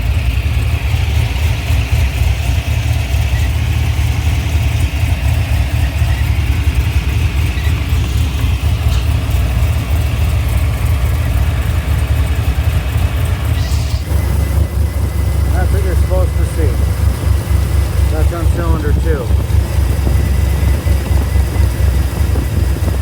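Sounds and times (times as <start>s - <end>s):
misfiring car engine idling: 0.0s - 23.0s.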